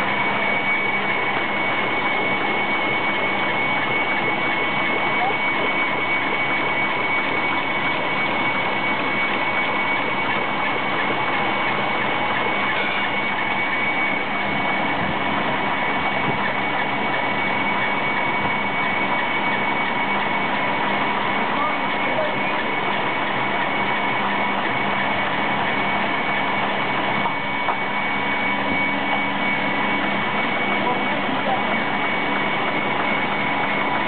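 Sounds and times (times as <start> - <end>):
high-pitched whine: 0.0 - 34.0
machinery running: 0.0 - 34.0.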